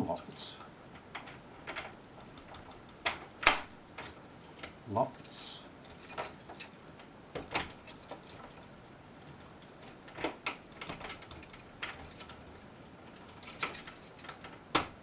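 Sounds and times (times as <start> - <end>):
key rattling in door lock: 1.0 - 6.8, 7.4 - 8.6, 9.7 - 14.8.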